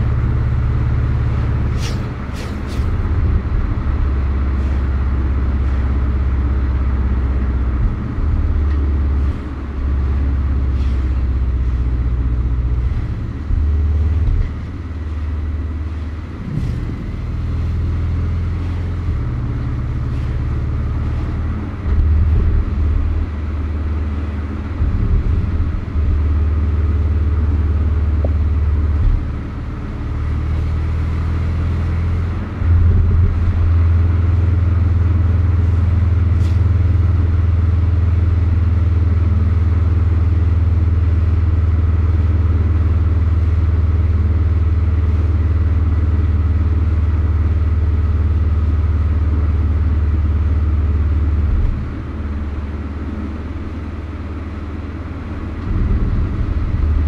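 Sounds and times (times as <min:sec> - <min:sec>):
car engine running at low revs: 0:00.0 - 0:57.0.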